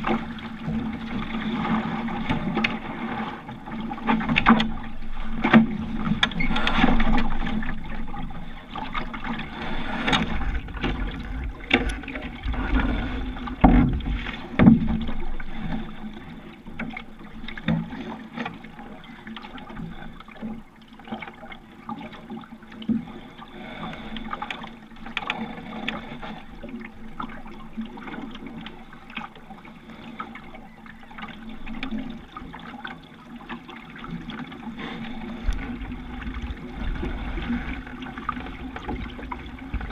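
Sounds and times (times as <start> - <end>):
water washing along boat hull: 0.0 - 39.9.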